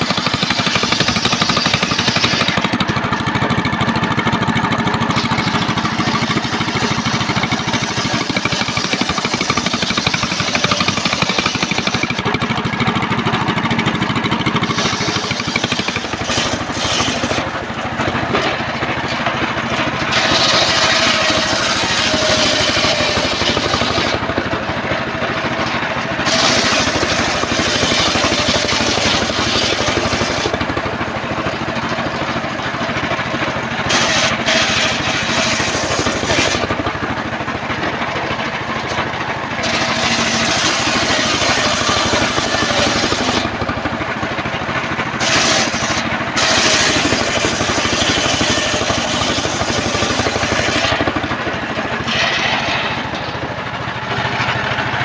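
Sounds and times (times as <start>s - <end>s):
circular saw cutting wood: 0.0s - 55.0s
engine drone: 0.0s - 55.0s.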